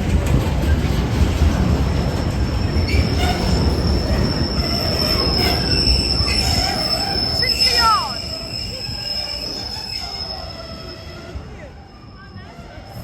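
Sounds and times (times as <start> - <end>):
train rumbling: 0.0 - 13.0
train wheel squeal: 1.9 - 13.0.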